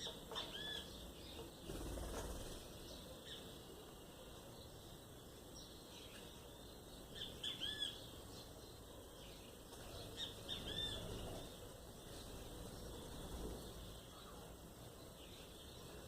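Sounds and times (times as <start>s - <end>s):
bird chirping: 0.0s - 16.0s
faint outdoor background noise: 0.0s - 16.0s.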